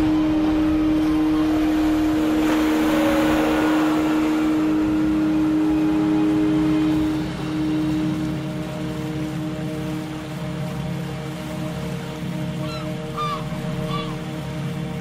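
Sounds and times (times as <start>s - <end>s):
rushing swell: 0.0s - 14.6s
steady tonal hum: 0.0s - 15.0s.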